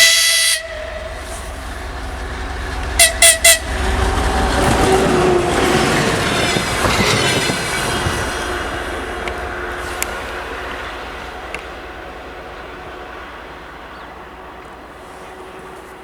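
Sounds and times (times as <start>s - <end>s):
locomotive horn toots: 0.0s - 16.0s
train passing: 0.0s - 16.0s.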